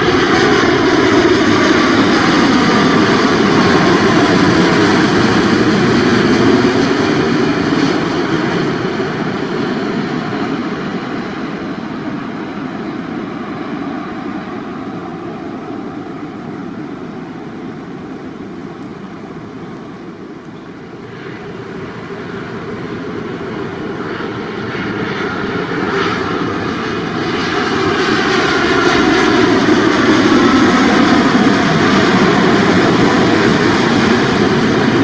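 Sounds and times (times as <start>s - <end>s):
jet airliner passing overhead: 0.0s - 35.0s
jet engine high hiss: 0.0s - 35.0s.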